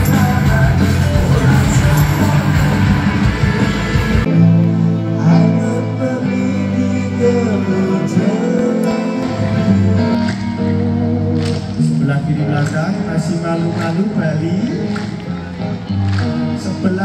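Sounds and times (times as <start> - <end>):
person singing: 0.0 - 14.9
guitar: 0.0 - 17.0
live band music: 0.0 - 17.0.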